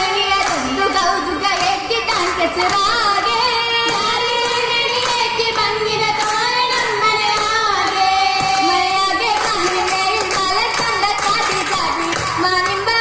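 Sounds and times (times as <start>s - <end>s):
girls singing: 0.0s - 13.0s.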